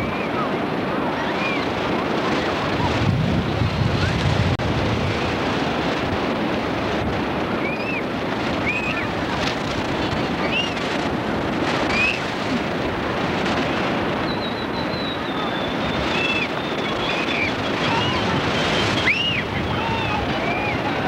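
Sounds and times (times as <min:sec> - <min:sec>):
ocean surf washing: 0:00.0 - 0:21.0
wind buffeting microphone: 0:00.0 - 0:21.0.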